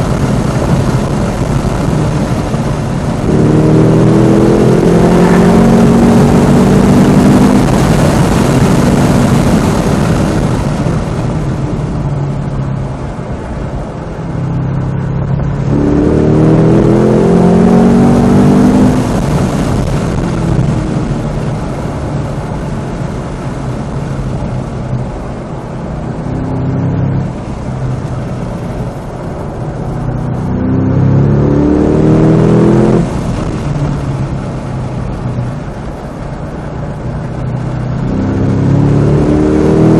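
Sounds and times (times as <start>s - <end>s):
car engine revving hard: 0.0s - 13.0s, 13.8s - 39.9s
car engine at low revs: 0.0s - 39.9s.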